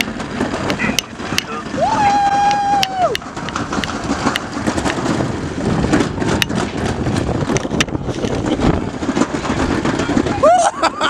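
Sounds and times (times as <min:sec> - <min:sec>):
rattles and clicks: 0:00.0 - 0:11.0
sled rolling rumble: 0:00.0 - 0:11.0.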